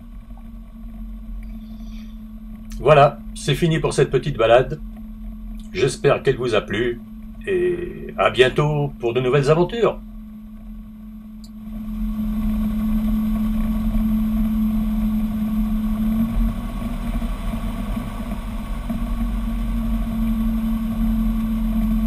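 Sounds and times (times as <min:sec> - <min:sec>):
light aircraft engine and propeller: 0:00.0 - 0:22.0.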